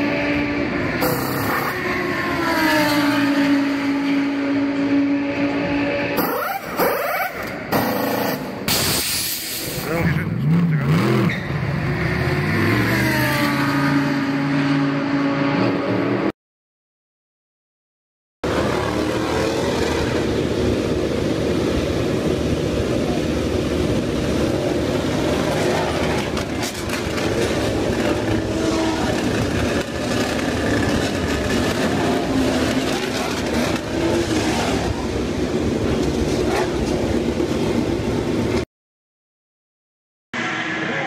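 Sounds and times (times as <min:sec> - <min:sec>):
motorcycle engines revving: 0:00.0 - 0:08.7, 0:09.7 - 0:16.3, 0:18.4 - 0:38.6.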